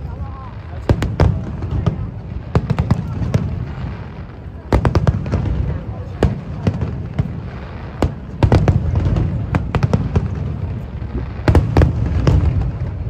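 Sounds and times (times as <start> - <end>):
fireworks bangs: 0.0 - 13.0
low rumble of explosions: 0.0 - 13.0.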